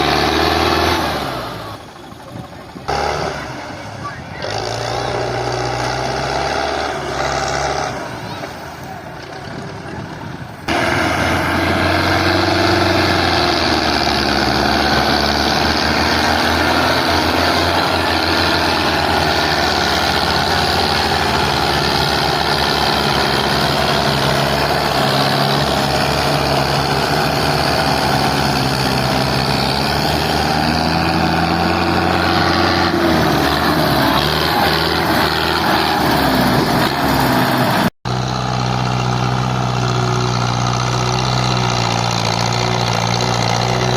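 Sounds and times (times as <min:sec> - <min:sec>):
tractor diesel engine: 0:00.0 - 0:43.9.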